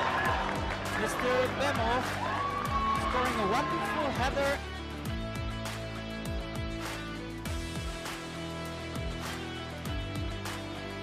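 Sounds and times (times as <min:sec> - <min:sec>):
electronic music with kick drums: 0:01.6 - 0:11.0.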